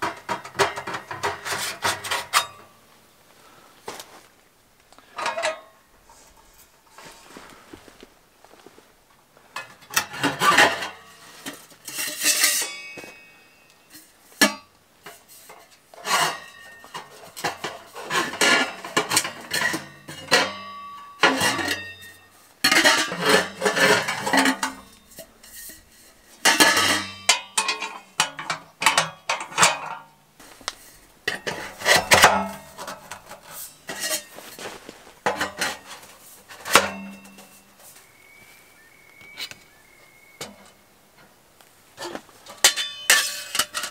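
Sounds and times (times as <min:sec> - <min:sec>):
metal stove pipes scraping and clanking: 0:00.0 - 0:02.7, 0:05.0 - 0:07.6, 0:09.6 - 0:38.1, 0:42.0 - 0:43.9.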